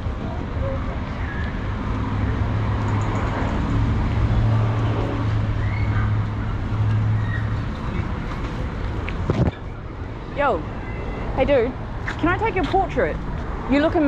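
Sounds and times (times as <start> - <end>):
vehicle engines running: 0.0 - 14.0.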